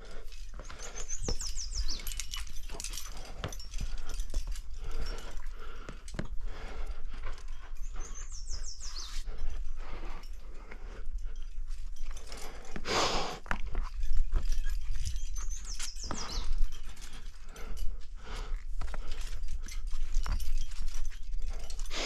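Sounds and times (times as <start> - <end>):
climber panting: 0.0 - 22.0.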